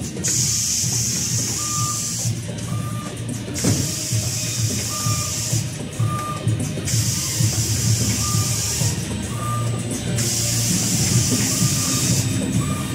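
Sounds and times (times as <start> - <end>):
machine hiss: 0.0 - 2.6, 3.5 - 12.9.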